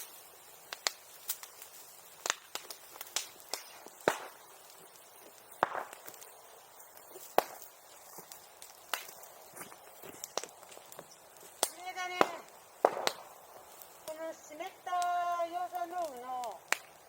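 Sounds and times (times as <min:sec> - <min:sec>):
bonfire crackling and popping: 0:00.0 - 0:17.0.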